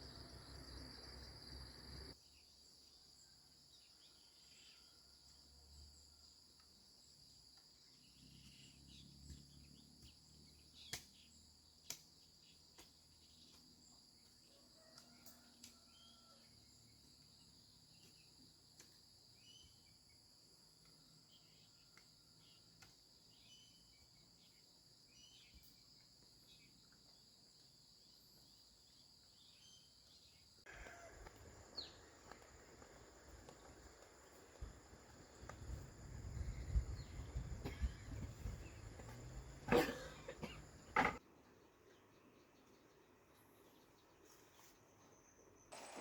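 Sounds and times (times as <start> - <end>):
insect chorus: 0.0 - 41.2.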